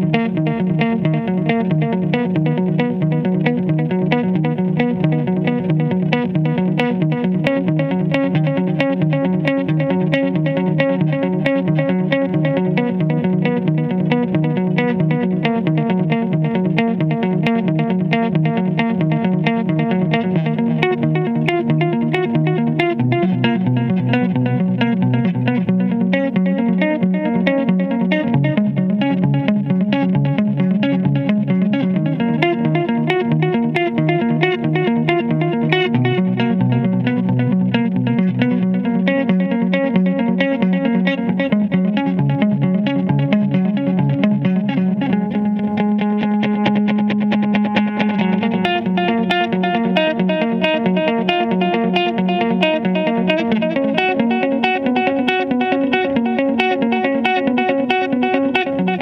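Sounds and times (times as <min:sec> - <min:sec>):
electric guitar picked notes: 0:00.0 - 0:59.0.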